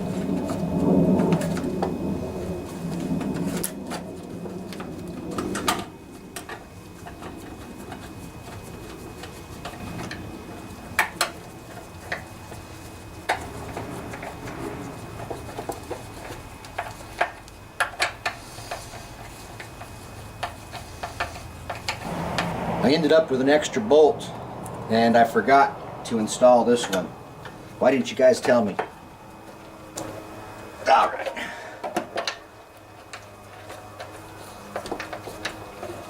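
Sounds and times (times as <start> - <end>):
hand tools and metal parts clinking: 4.7 - 36.0.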